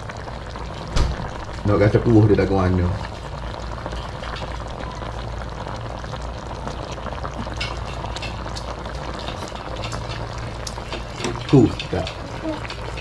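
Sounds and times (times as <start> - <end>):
gravy bubbling and popping: 0.0 - 13.0.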